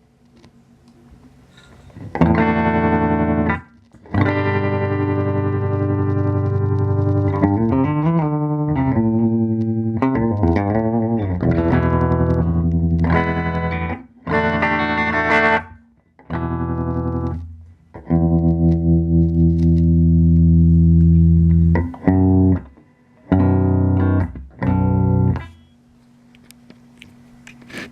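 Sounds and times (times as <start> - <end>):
electric guitar playing: 2.0 - 25.6.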